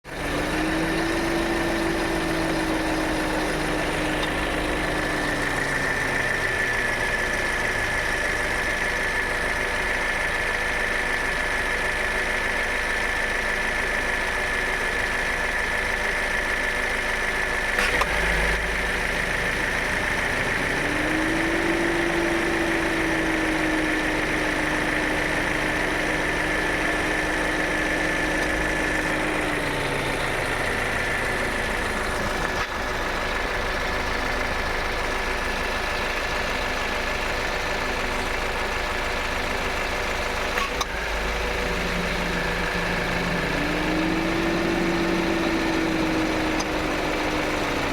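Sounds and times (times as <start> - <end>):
car engine idling with whine: 0.0 - 47.9.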